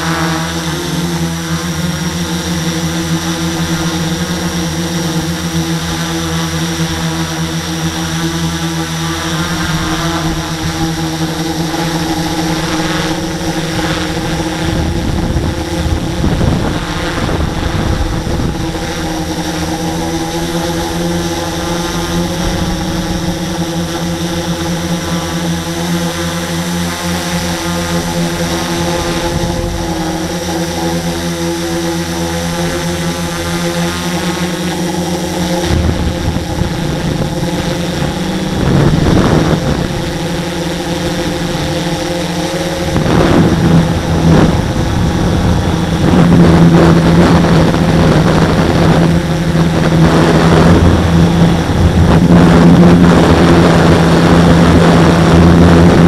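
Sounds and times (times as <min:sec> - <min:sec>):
model aircraft propellers buzzing: 0:00.0 - 0:56.0
wind buffeting microphone: 0:06.8 - 0:56.0.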